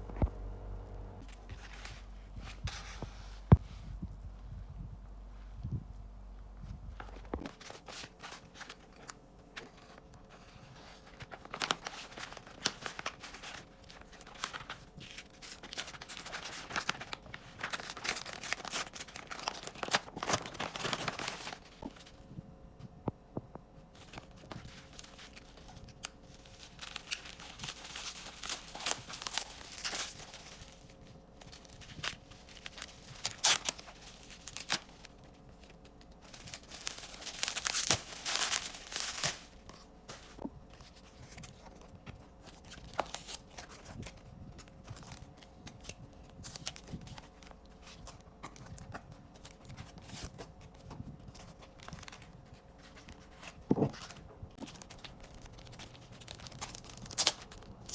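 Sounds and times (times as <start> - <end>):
packaging rustling: 7.0 - 22.2, 23.9 - 57.9.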